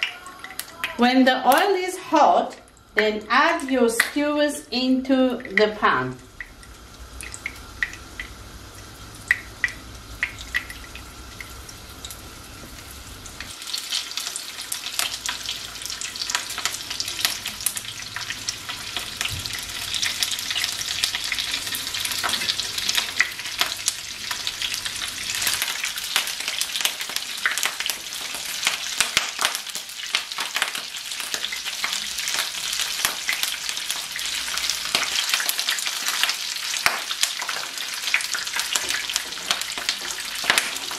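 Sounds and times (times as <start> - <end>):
skewers sizzling in hot oil: 0.0 - 40.9.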